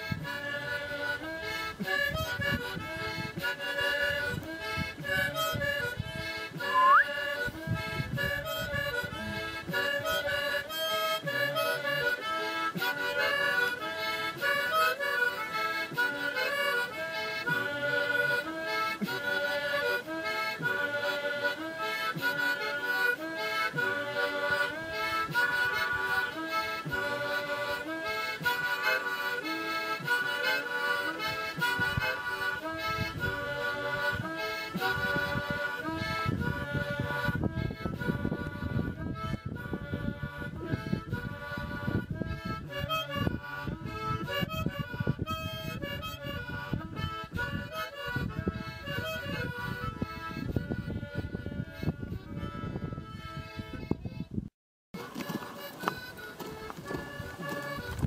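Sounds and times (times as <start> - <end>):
harmonica-like instrumental tune: 0.0 - 54.4, 55.0 - 58.0.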